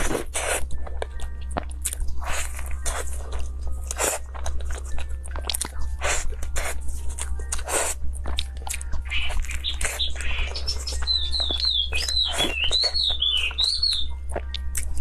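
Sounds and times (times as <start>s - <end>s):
steady low hum: 0.0s - 15.0s
wet chewing and biting: 0.0s - 15.0s.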